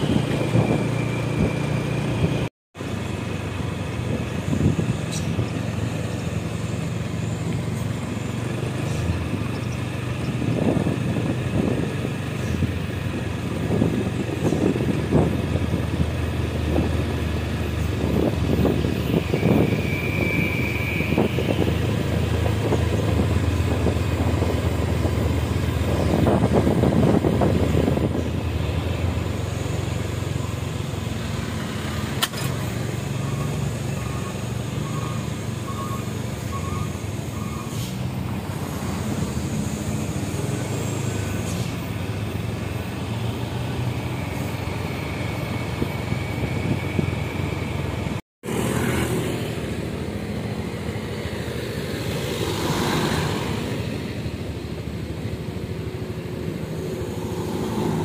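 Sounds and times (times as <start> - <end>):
vehicle engines rumbling: 0.0 - 58.0.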